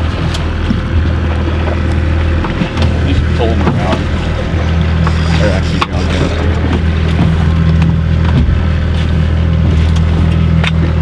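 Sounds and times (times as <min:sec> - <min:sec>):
outboard motors droning: 0:00.0 - 0:11.0.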